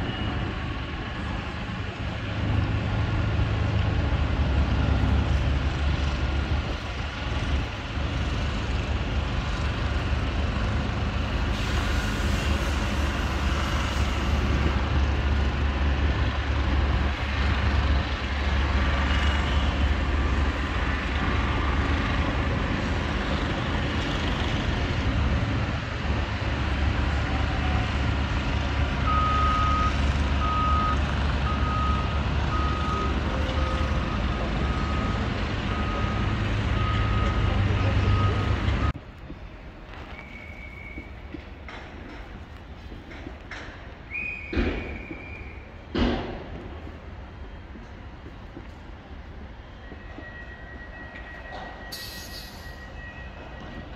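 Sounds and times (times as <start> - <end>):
heavy vehicle engine rumbling: 0.0 - 53.9.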